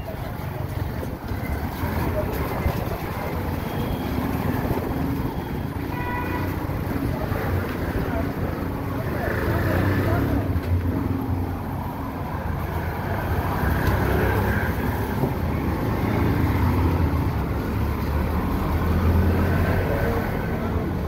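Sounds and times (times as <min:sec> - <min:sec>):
traffic on a wet road: 0:00.0 - 0:21.0.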